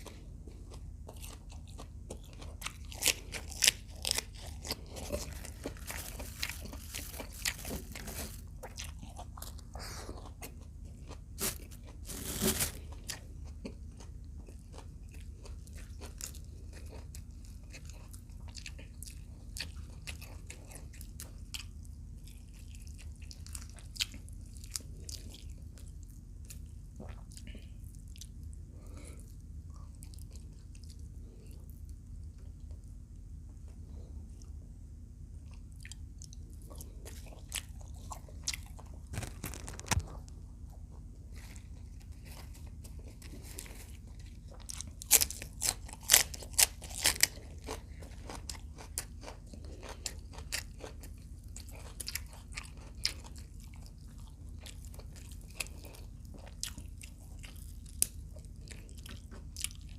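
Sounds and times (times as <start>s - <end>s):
chewing: 0.0s - 33.0s, 35.4s - 59.9s
crunching crisp food: 0.0s - 34.7s, 35.4s - 59.9s.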